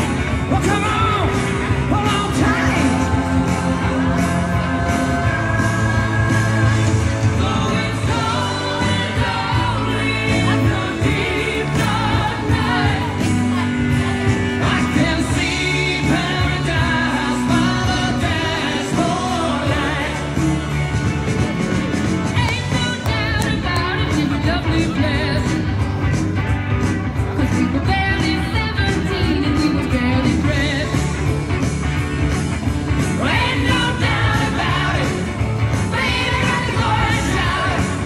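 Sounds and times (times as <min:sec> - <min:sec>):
rock band with singing: 0:00.0 - 0:38.0.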